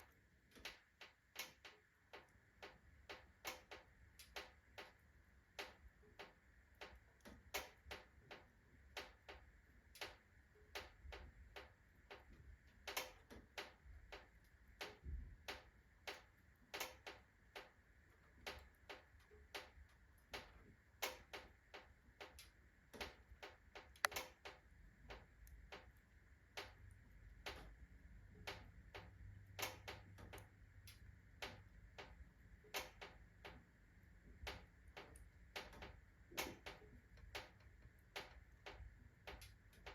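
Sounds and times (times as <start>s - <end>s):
iron stove ticking and clicking: 0.0s - 39.9s.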